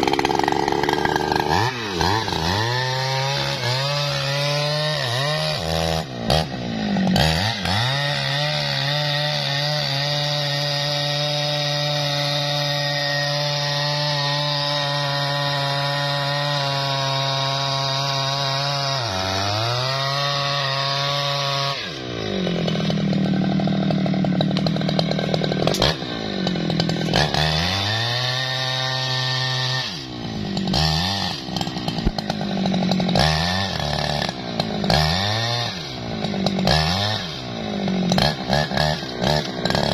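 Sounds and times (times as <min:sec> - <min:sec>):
chainsaw cutting tree: 0:00.0 - 0:39.9.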